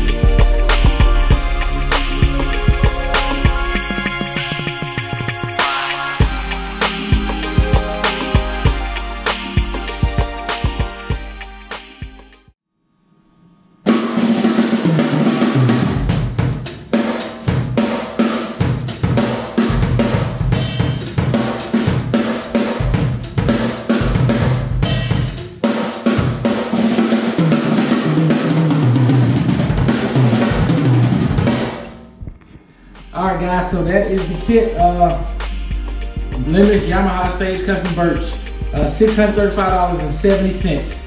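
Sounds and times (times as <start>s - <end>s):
cymbals and hi-hat: 0.0s - 12.5s, 13.9s - 29.0s, 32.9s - 41.0s
drum kit beat: 0.0s - 12.6s, 13.9s - 41.0s.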